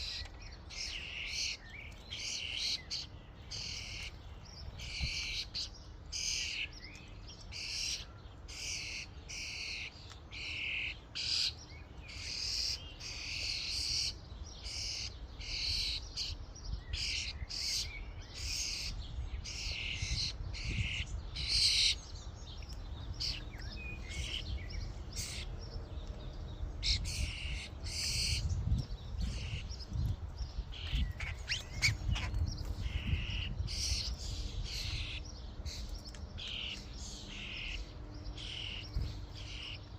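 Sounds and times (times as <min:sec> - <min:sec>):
starlings chattering: 0:00.0 - 0:39.9.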